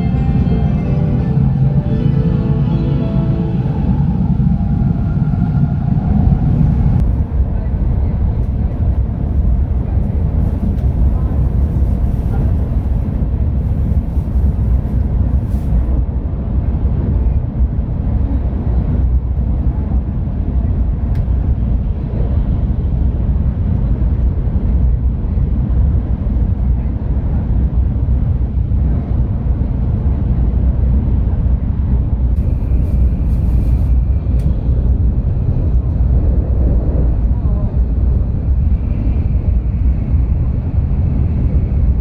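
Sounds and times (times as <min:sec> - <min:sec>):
train low rumble inside carriage: 0:00.0 - 0:42.0.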